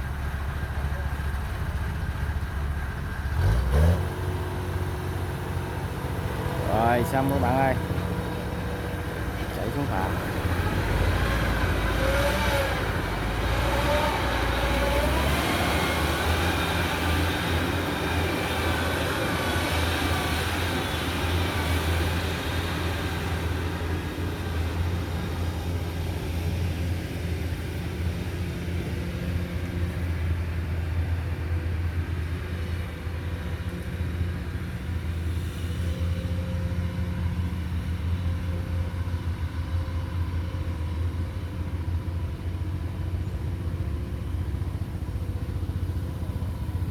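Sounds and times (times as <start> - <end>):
diesel engine humming: 0.0 - 46.9.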